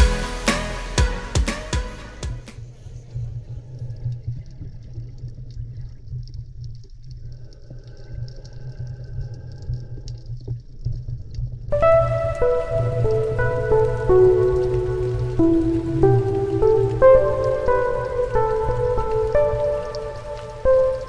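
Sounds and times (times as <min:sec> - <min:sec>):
muffled water rumble: 0:02.3 - 0:21.0
faint crackles and ticks: 0:02.5 - 0:21.0.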